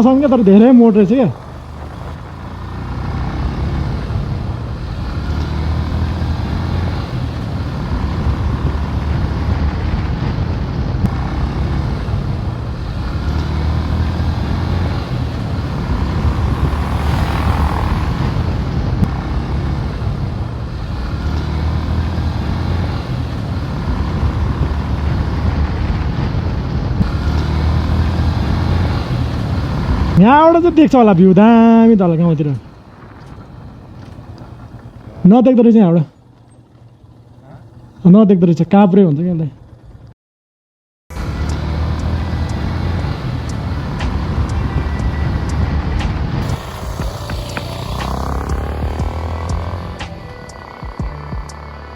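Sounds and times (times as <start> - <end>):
motorcycle engine: 0.0 - 38.2, 39.5 - 40.1, 41.1 - 51.9
road rumble: 0.0 - 40.2, 41.1 - 51.9.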